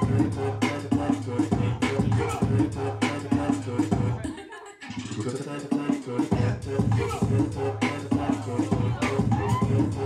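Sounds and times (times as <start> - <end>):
hip hop music: 0.0 - 10.0.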